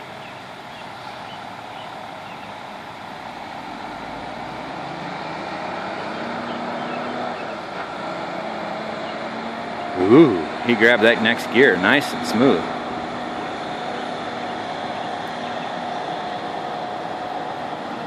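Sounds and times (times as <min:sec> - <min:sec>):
heavy truck engine labouring: 0:00.0 - 0:18.0.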